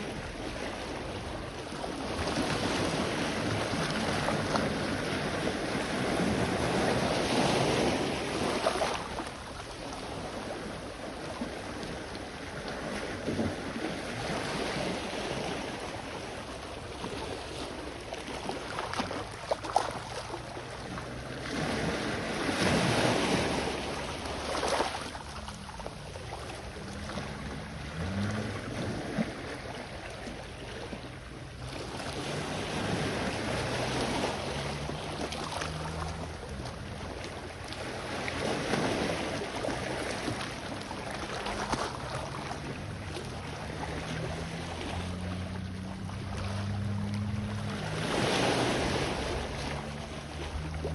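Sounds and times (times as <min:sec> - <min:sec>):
sea waves washing ashore: 0:00.0 - 0:50.9.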